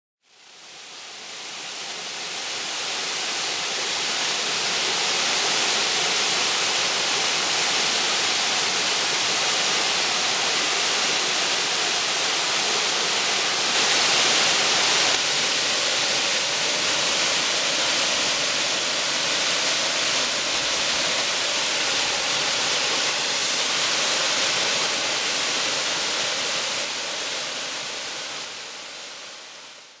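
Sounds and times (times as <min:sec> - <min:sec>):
waterfall rushing and splashing: 0:00.3 - 0:30.0.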